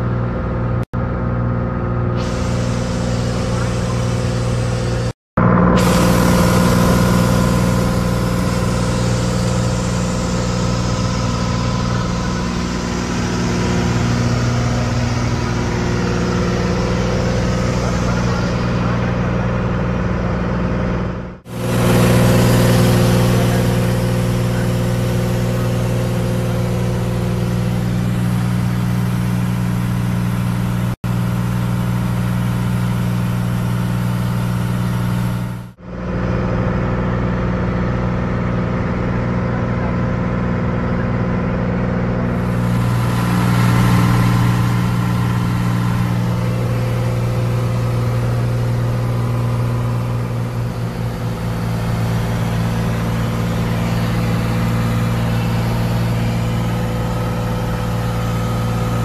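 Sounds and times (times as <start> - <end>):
light aircraft engine droning: 0.0 - 59.0.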